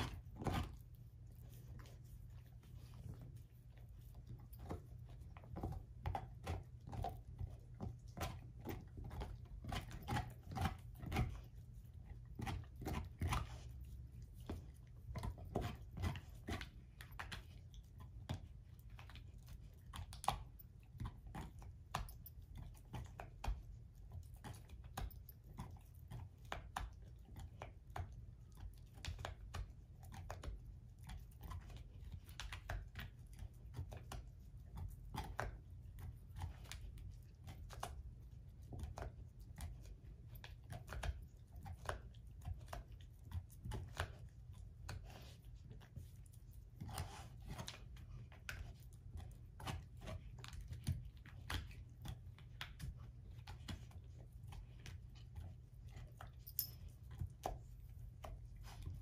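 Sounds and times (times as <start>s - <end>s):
dog crunching and chewing bone: 0.0s - 59.0s.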